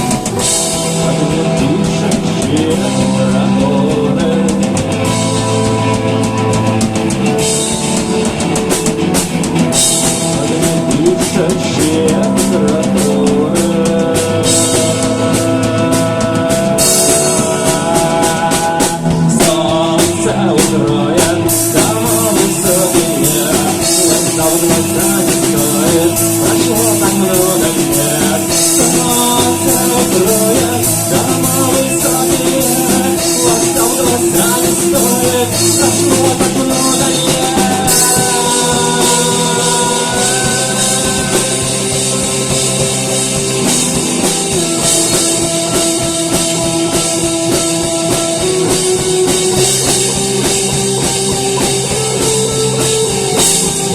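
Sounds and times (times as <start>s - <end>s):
rock music: 0.0s - 53.9s.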